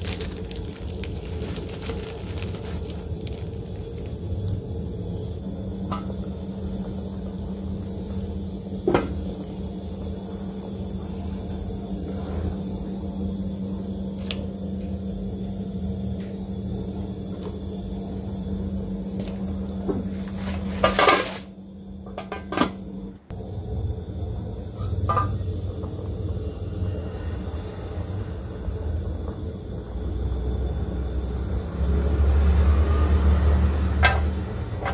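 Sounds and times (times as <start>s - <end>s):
low hum: 0.0s - 34.9s.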